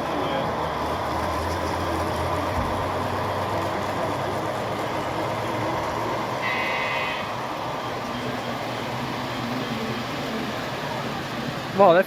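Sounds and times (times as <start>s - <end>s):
model locomotives rumbling on track: 0.0s - 12.0s.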